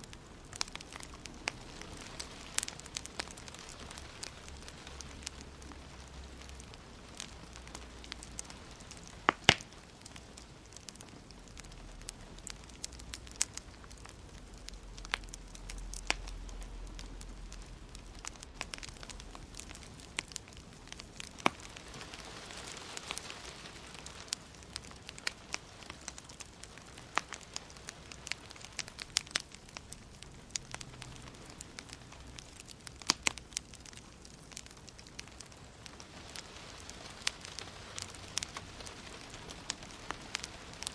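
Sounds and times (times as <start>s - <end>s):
soft fire hiss: 0.0s - 40.9s
wood fire crackling: 0.0s - 40.9s.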